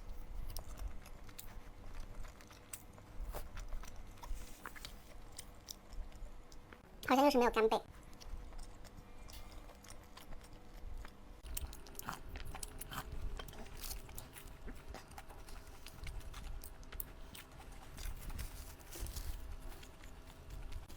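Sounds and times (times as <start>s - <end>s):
person chewing: 0.0s - 6.8s, 8.0s - 20.9s.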